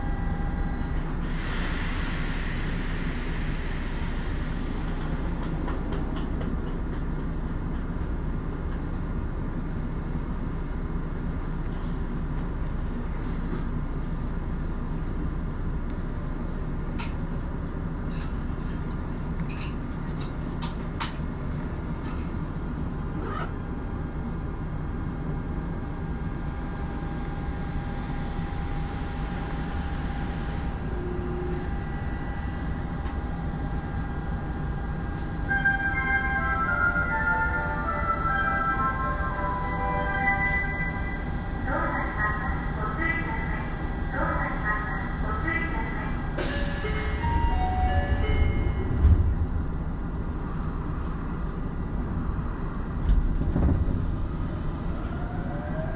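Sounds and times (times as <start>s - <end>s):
subway train equipment humming: 0.0s - 55.9s.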